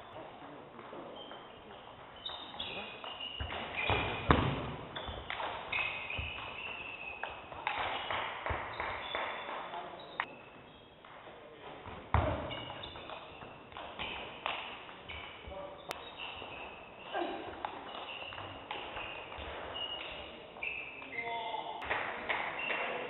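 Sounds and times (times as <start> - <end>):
shoes squeaking on floor: 0.0 - 23.0.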